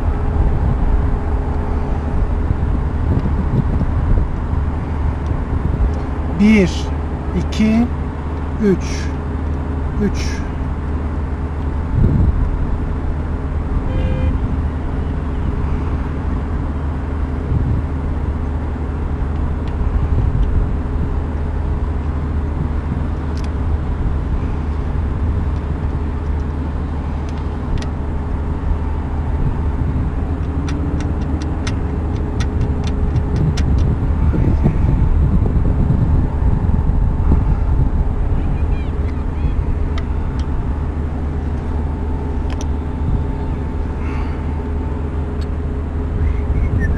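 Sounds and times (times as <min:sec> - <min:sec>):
low machinery hum: 0:00.0 - 0:46.9.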